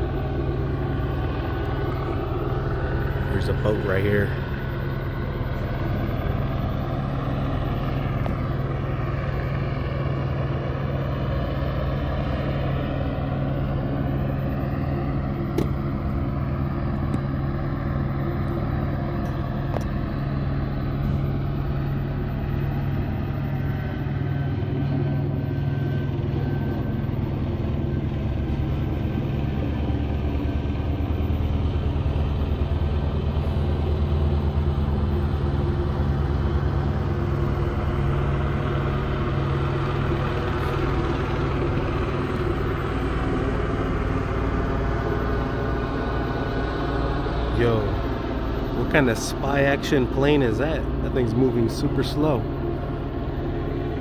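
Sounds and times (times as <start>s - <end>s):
helicopter rotor drone: 0.0s - 54.0s.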